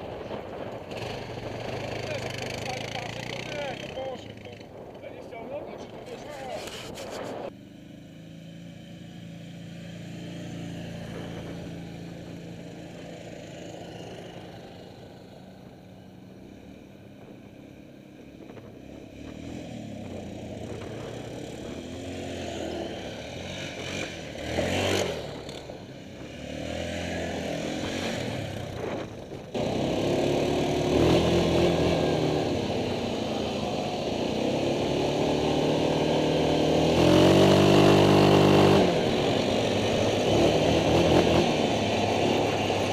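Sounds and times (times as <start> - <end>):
quad bike engines revving: 0.0 - 5.2, 5.8 - 42.9.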